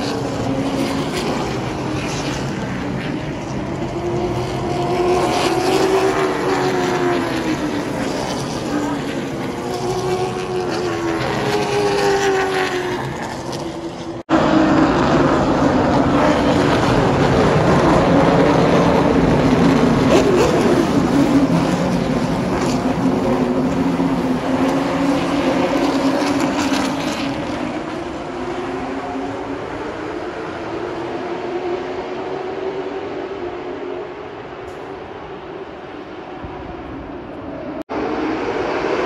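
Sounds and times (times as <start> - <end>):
race car engines passing: 0.0 - 39.0.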